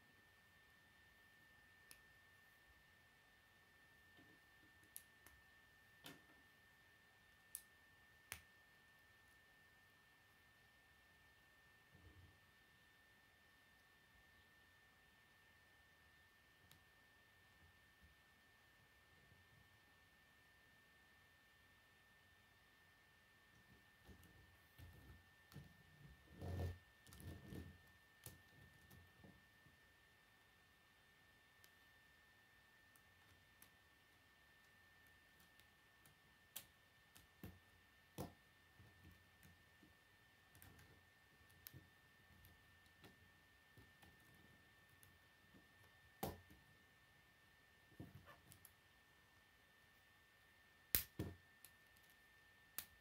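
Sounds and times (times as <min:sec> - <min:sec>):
faint high-pitched hum: 0:00.0 - 0:53.0.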